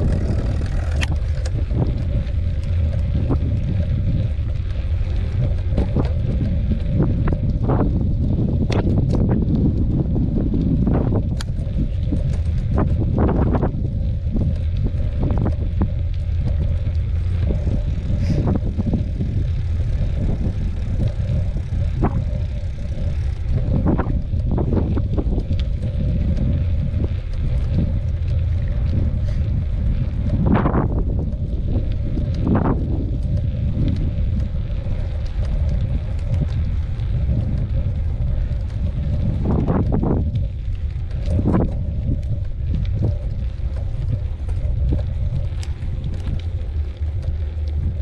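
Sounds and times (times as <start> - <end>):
bike rattling and knocking: 0.0 - 48.0
wind rumble on microphone: 0.0 - 48.0.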